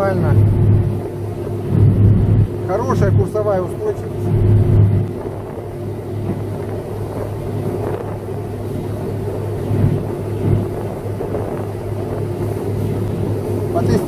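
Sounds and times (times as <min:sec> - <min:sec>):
outboard motor running: 0:00.0 - 0:14.0
water rushing past hull: 0:00.0 - 0:14.0.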